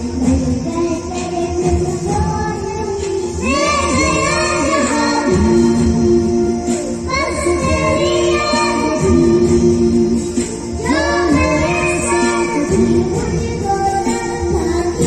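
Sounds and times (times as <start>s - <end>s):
girl singing into microphone: 0.0s - 15.0s
instrumental backing music: 0.0s - 15.0s.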